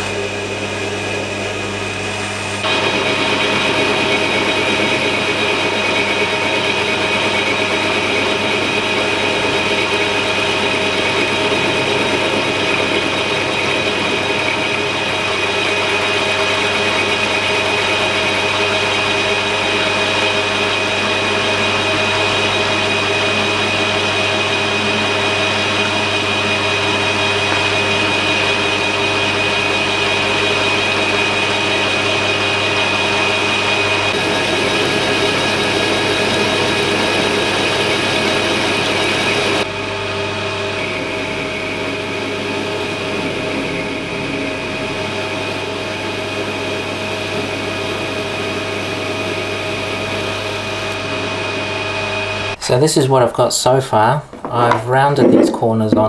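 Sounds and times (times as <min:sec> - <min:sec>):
metal lathe cutting steel: 0:00.0 - 0:52.6
steady high whine: 0:00.0 - 0:56.0.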